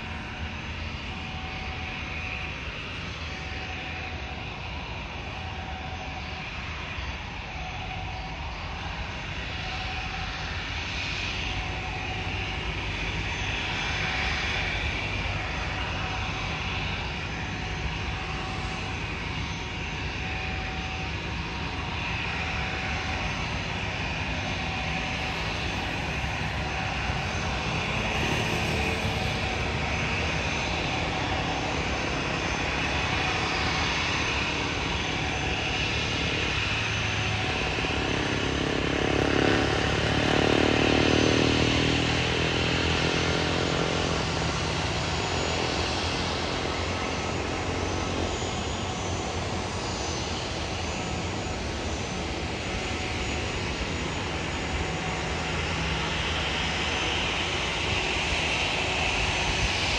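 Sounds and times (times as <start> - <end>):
airliner engines roaring: 0.0 - 59.9.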